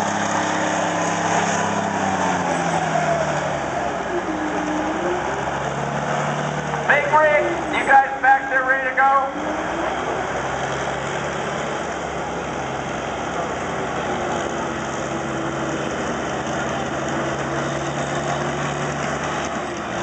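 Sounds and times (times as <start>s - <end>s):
diesel truck engines running: 0.0s - 20.0s.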